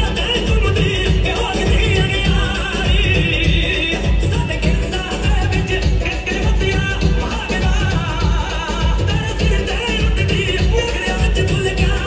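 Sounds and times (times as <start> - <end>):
dance song with heavy bass beat: 0.0 - 12.0
person singing: 0.0 - 12.0.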